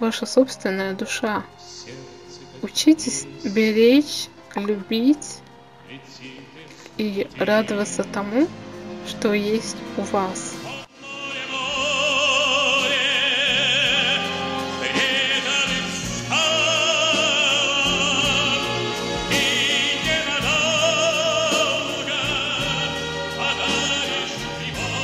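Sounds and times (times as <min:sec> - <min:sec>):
instrumental backing: 0:00.0 - 0:25.0
operatic singing with vibrato: 0:00.0 - 0:25.0.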